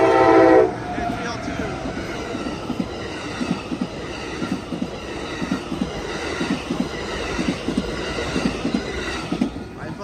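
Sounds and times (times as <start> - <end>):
train rumble: 0.0 - 10.0
train wheels knocking on rail joints: 1.0 - 10.0.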